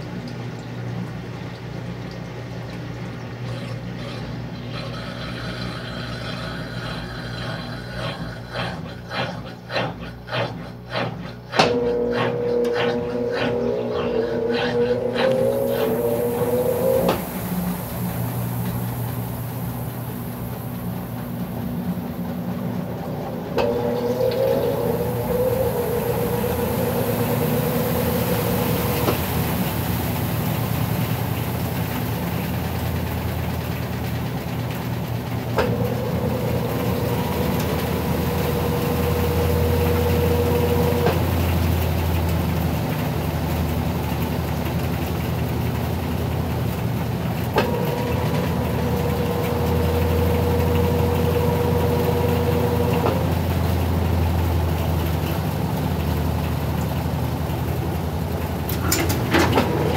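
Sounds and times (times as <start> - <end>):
washing machine drum spinning: 0.0 - 59.9
washing machine whine: 0.0 - 59.9.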